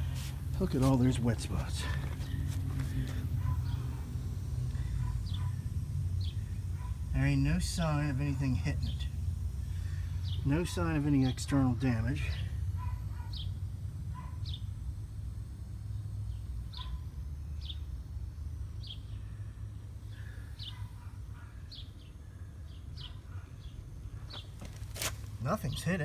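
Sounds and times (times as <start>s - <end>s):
small birds chirping: 0.7s - 14.8s, 15.9s - 18.0s, 18.7s - 24.9s.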